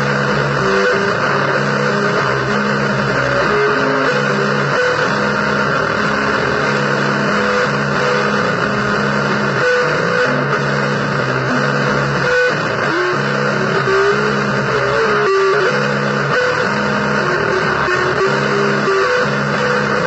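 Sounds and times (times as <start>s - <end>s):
dense noise: 0.0s - 20.0s
electric guitar blues line: 0.0s - 20.0s.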